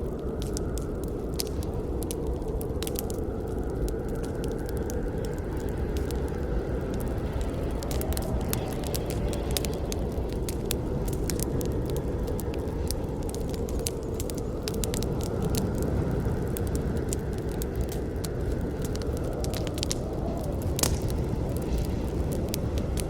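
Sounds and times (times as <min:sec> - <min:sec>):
campfire crackling and popping: 0:00.0 - 0:23.0
low rumble of flames: 0:00.0 - 0:23.0.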